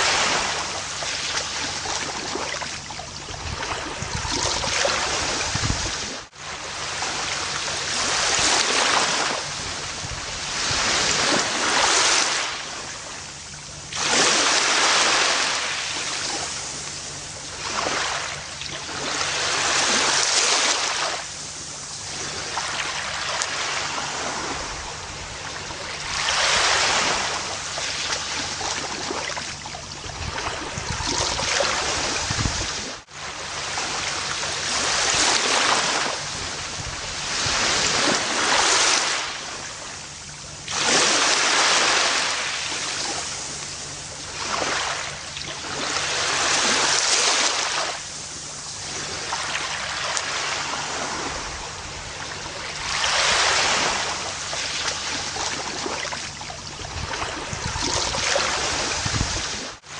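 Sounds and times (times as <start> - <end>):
ocean waves breaking on a beach: 0.0 - 59.9.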